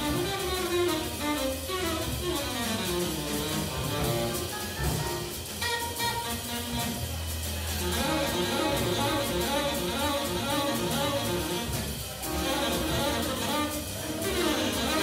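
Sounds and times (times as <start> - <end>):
small-group jazz playing: 0.0 - 15.0.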